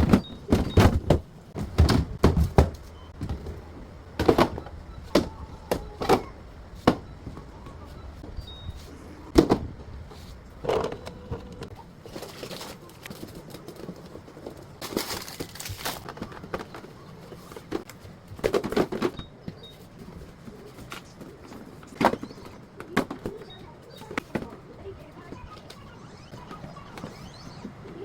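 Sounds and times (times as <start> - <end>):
food containers knocking and clattering: 0.0 - 8.4, 9.3 - 10.0, 10.6 - 24.7.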